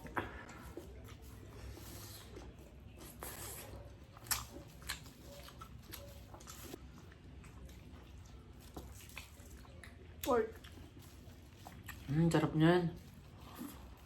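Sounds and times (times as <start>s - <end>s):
people chewing with wet mouth sounds: 0.0s - 14.0s.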